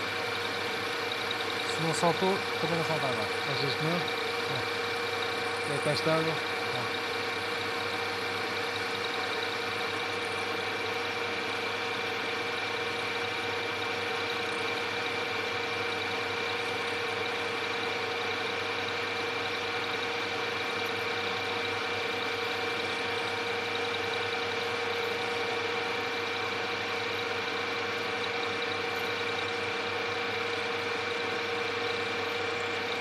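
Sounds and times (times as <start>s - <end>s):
metal lathe running: 0.0s - 33.0s.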